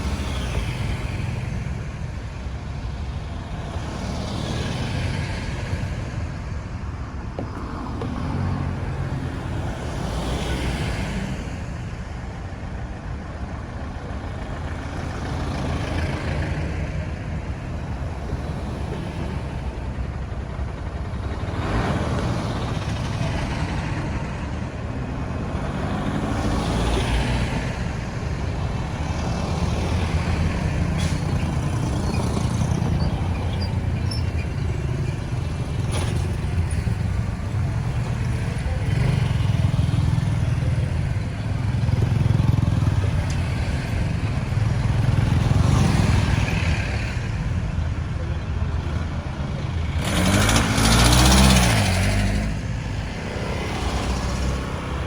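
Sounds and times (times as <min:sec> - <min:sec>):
traffic engine rumble: 0:00.0 - 0:55.0
vehicles passing close by: 0:00.0 - 0:55.0.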